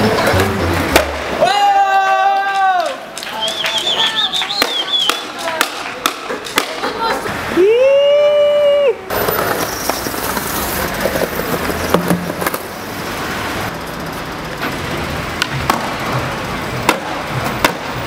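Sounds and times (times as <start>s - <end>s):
skateboard wheels rolling: 0.0s - 18.0s.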